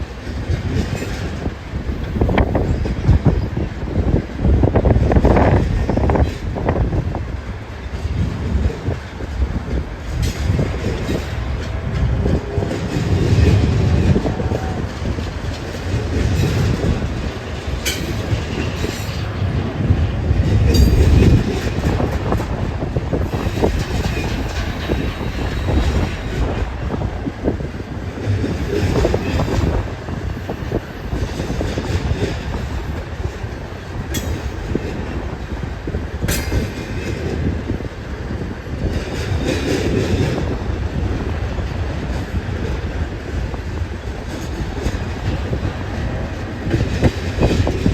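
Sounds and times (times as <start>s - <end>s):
train wheels clattering: 0.0s - 47.9s
wind buffeting microphone: 0.0s - 47.9s.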